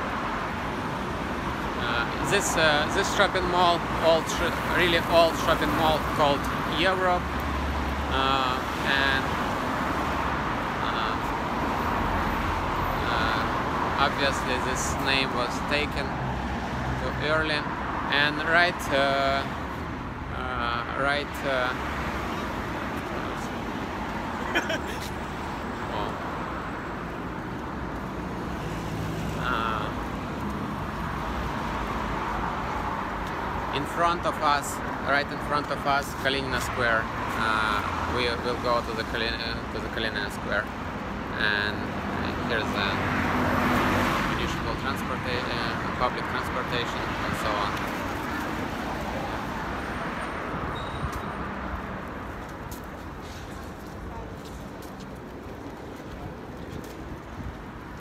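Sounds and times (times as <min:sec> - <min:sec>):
city road traffic: 0:00.0 - 0:58.0.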